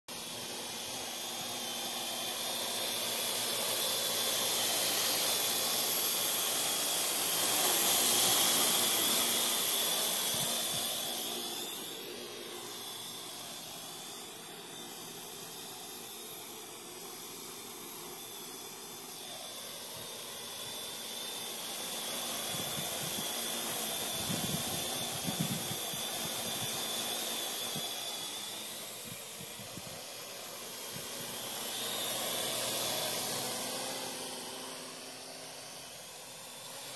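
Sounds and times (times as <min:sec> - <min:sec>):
quadcopter rotors whirring: 0:00.1 - 0:36.9.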